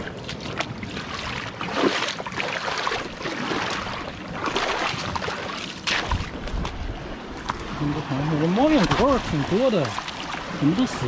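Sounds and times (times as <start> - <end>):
seawater trickling among rocks: 0.0 - 11.0.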